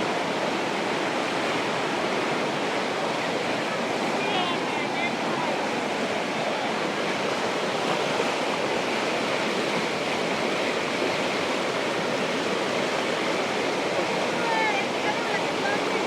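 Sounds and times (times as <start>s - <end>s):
stream of flowing water: 0.0s - 16.0s.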